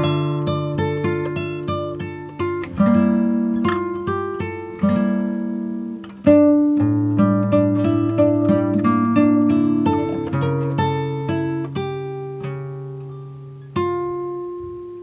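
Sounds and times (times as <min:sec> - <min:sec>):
plucked instrumental music: 0:00.0 - 0:15.0.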